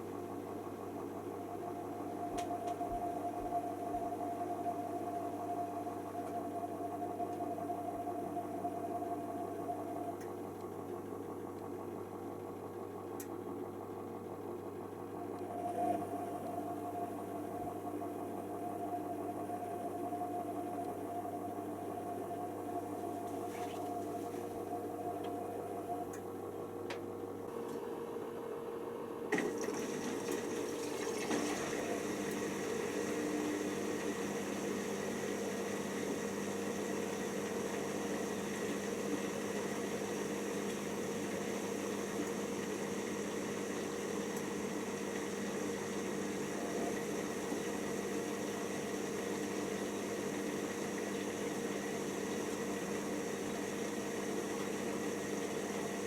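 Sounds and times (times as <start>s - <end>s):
washer dryer humming: 0.0s - 56.0s.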